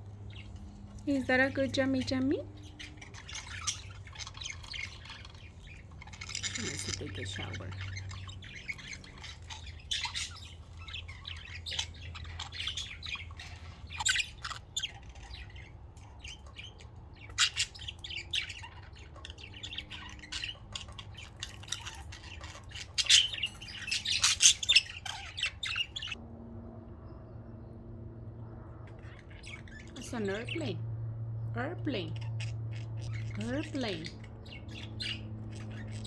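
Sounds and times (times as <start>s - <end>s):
budgerigars chirping and squawking: 0.0s - 26.2s, 28.9s - 30.8s, 31.6s - 36.0s
faint low hum: 0.0s - 36.0s.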